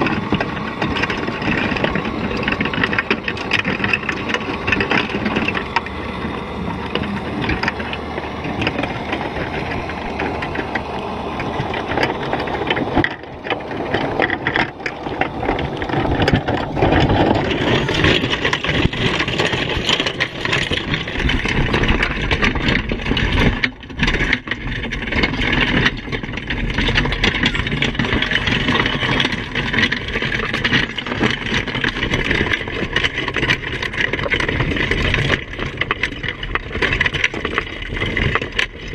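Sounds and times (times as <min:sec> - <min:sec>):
low engine rumble: 0:00.0 - 0:38.9
muffled rushing and knocking: 0:00.0 - 0:38.9.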